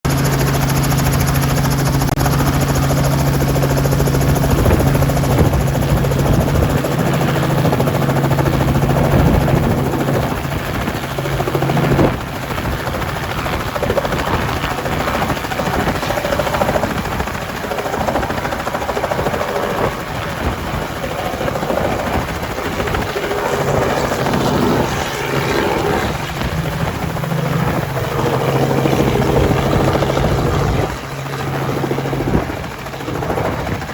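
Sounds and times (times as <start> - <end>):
helicopter engine and rotor hum: 0.1 - 33.9.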